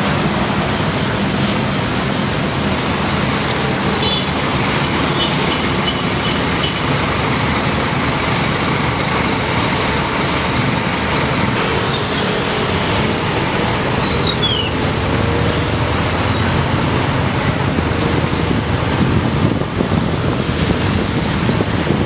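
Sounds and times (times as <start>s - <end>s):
bus engine and road noise: 0.0s - 22.0s.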